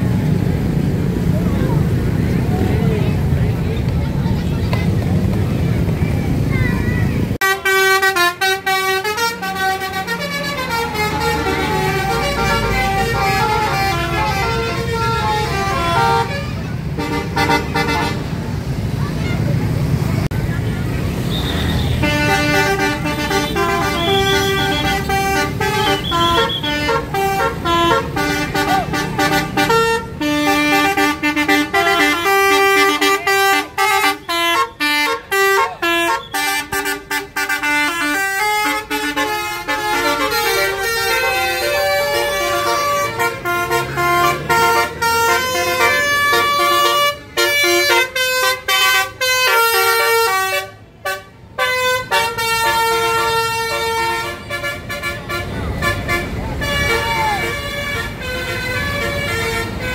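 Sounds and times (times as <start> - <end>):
multi-tone bus air horns: 7.4 - 20.0, 21.2 - 59.9.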